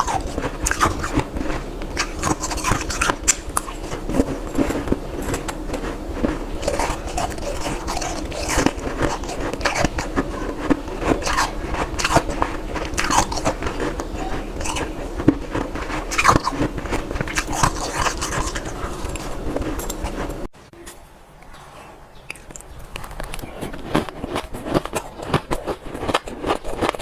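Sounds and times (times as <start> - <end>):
ice being chewed: 0.0 - 20.5, 22.2 - 27.0.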